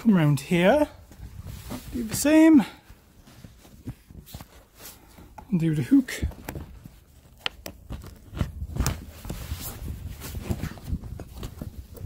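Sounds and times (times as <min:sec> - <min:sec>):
canvas rustling: 0:00.1 - 0:12.0.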